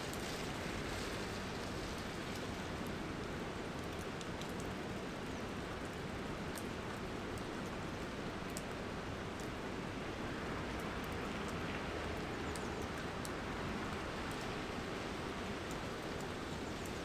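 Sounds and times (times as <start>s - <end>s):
light rain hiss: 0.0s - 17.0s
raindrops ticking: 0.1s - 9.6s, 10.7s - 17.0s.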